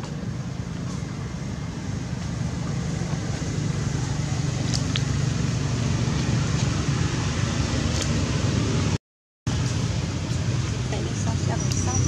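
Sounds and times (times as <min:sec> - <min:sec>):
engine running rumble: 0:00.0 - 0:12.0.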